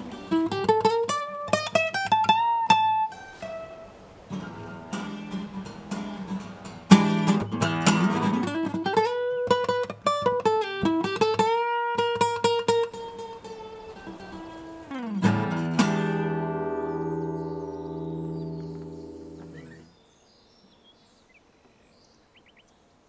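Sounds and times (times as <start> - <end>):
acoustic guitar strumming: 0.0 - 19.9.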